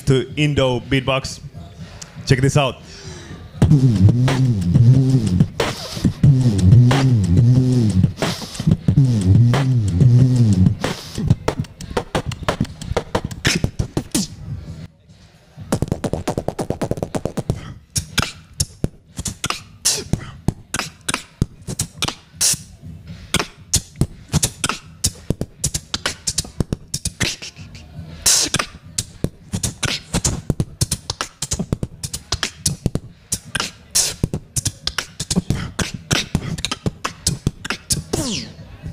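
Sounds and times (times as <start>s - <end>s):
beatboxing into a microphone: 0.0s - 14.9s, 15.6s - 38.9s.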